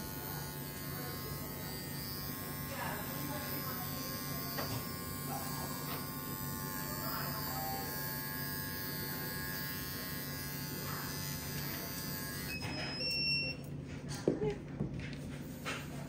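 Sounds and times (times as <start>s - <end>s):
electric pet clipper buzzing: 0.0s - 13.6s.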